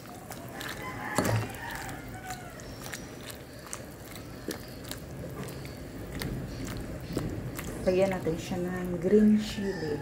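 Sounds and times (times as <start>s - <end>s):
soup boiling: 0.0s - 10.0s
spatula stirring greens in soup: 0.0s - 10.0s.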